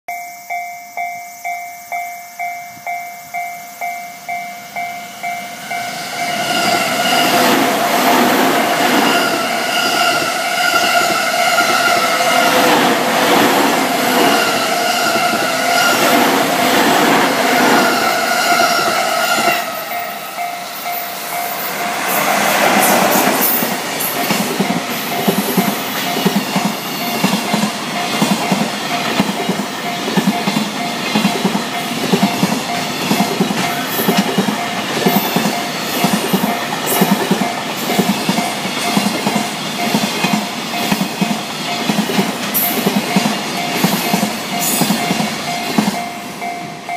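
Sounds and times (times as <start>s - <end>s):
electric train passing: 0.1s - 46.9s
freight train wheels clattering: 4.7s - 46.9s.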